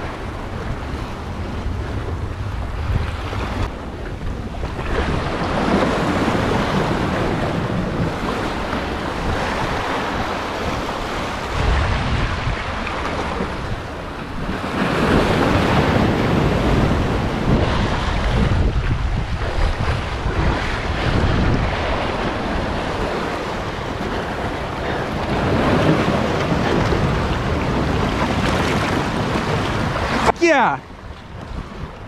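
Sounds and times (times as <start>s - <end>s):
surf washing over boulders: 0.0s - 32.0s
wind buffeting microphone: 0.0s - 32.0s.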